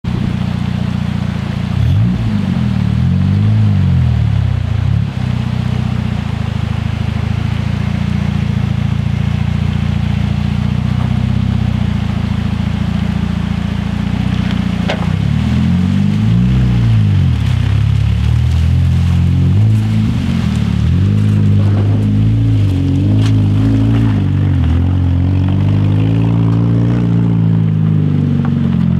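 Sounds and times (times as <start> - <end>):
car engine running at low revs: 0.0 - 28.9.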